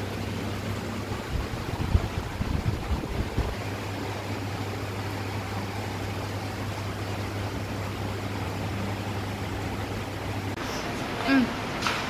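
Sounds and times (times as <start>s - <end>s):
aquarium air pumps humming: 0.0s - 12.0s.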